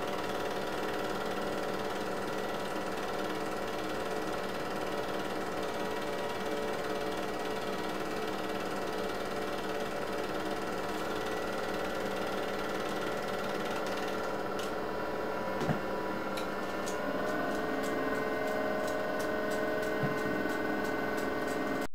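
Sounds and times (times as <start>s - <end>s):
film projector whirring: 0.0s - 21.9s.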